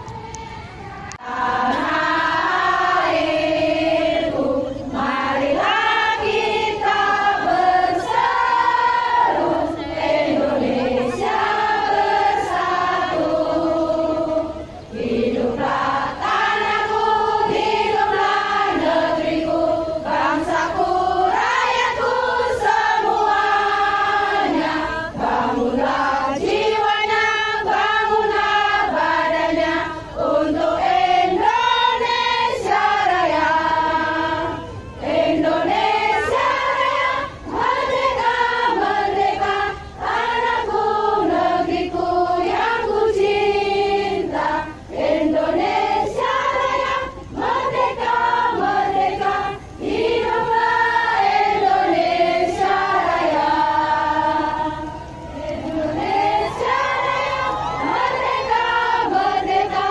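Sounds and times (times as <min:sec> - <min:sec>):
crowd of women singing: 0:00.0 - 0:59.9.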